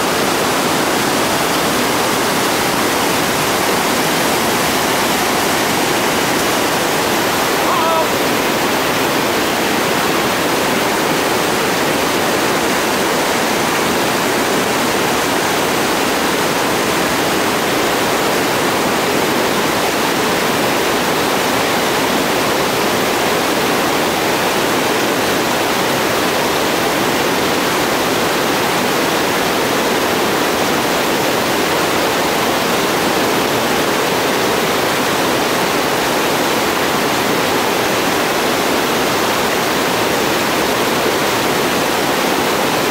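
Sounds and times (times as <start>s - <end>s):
whitewater rapids rushing: 0.0s - 42.9s.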